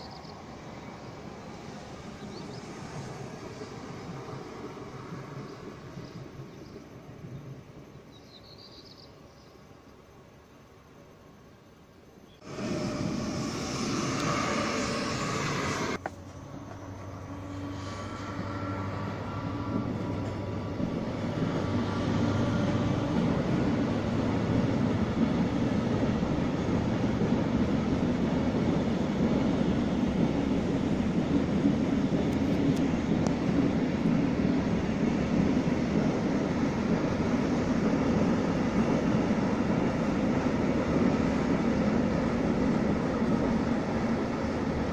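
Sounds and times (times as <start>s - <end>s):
train rumbling past: 0.0s - 9.7s, 12.4s - 44.9s.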